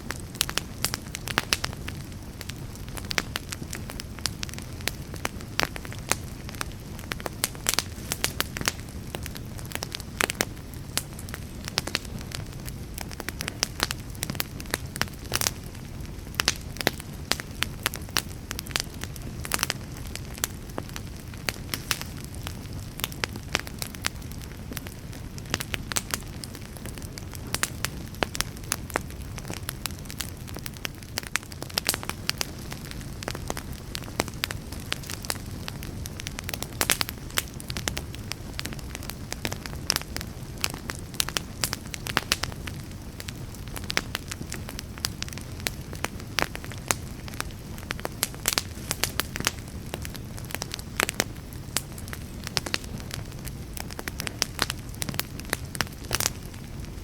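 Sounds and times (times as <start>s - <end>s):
burning wood crackles and pops: 0.0s - 57.0s
low rumble of flames: 0.0s - 57.0s.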